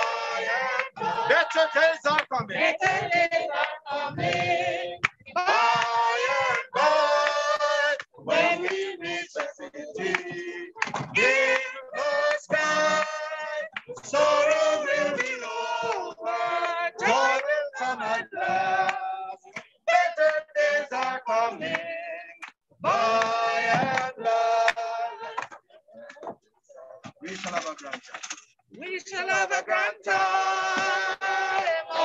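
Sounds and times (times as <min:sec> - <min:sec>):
group singing unaccompanied: 0:00.0 - 0:26.4, 0:28.8 - 0:32.0.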